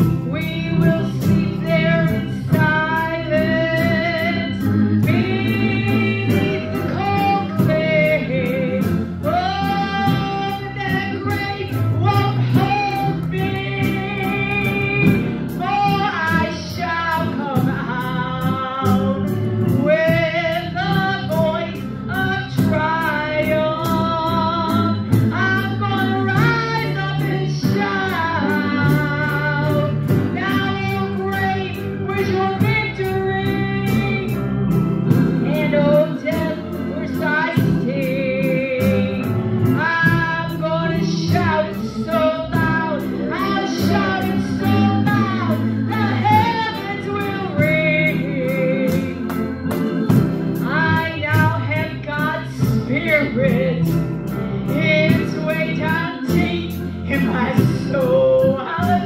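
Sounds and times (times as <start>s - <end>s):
instrumental accompaniment: 0.0s - 59.0s
woman singing into a microphone: 0.0s - 59.0s.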